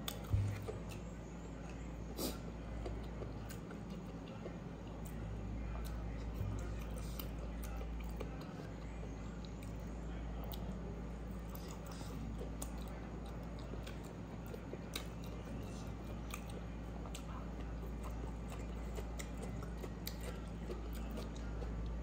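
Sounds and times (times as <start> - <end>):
person chewing: 0.0 - 22.0
steady low hum: 0.0 - 22.0.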